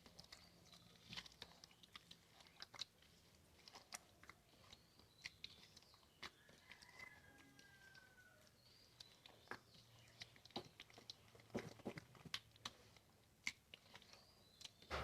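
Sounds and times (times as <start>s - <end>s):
hand mixing wet batter: 0.0s - 15.0s.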